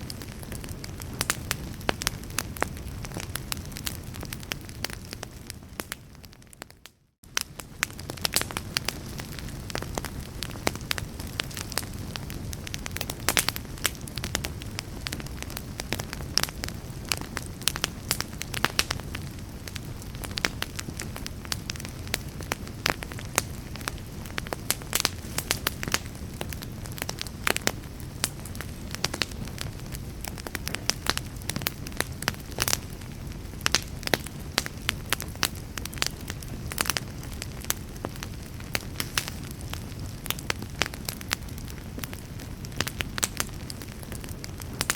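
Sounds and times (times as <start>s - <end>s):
fire crackles and pops: 0.0s - 44.9s
fire flames rumbling: 0.0s - 44.9s.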